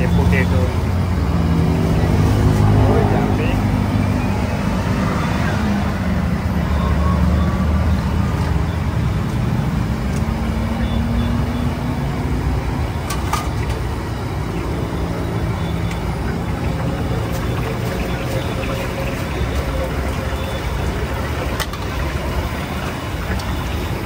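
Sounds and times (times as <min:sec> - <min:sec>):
low motor rumble: 0:00.0 - 0:24.0.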